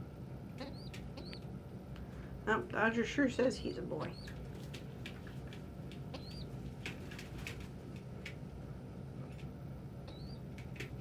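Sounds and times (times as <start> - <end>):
low fan-like hum: 0.0 - 11.0
young pigeons peeping: 0.3 - 2.4, 3.0 - 8.4, 9.2 - 11.0.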